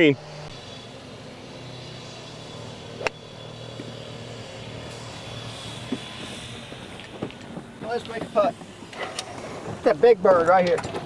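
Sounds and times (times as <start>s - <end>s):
golf cart humming: 0.0s - 11.0s.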